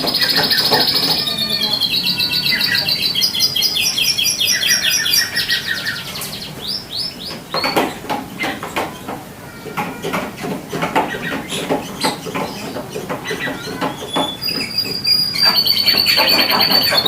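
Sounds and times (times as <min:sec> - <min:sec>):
canary singing: 0:00.0 - 0:09.1, 0:10.4 - 0:17.0.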